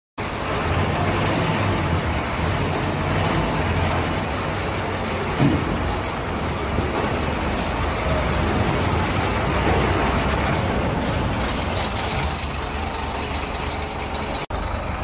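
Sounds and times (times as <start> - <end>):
diesel engine drone: 0.2 - 15.0.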